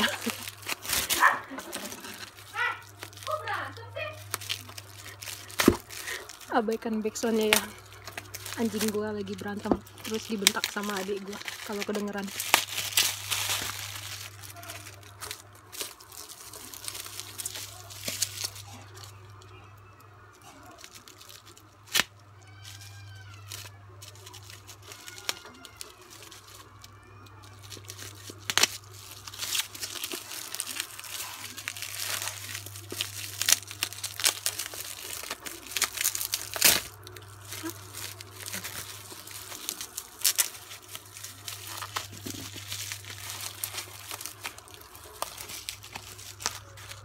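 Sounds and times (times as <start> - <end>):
bubble wrap crackle: 0.0 - 47.0
plastic bag and bubble wrap crinkling: 0.0 - 47.0.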